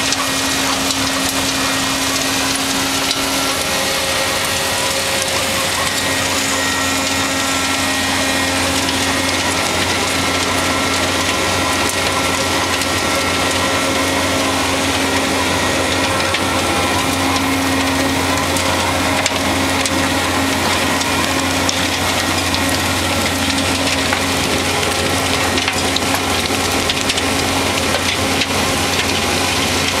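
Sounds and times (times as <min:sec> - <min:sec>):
diesel machine low hum: 0:00.0 - 0:30.0
rattle of falling wood chips: 0:00.0 - 0:30.0.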